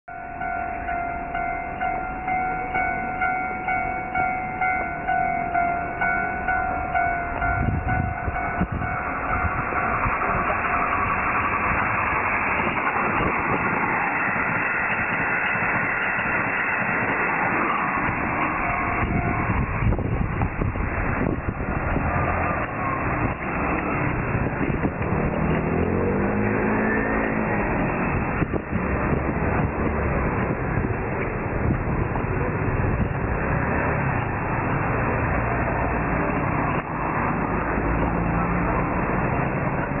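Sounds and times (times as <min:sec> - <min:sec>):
train wheel and rail rumble: 0:00.1 - 0:40.0.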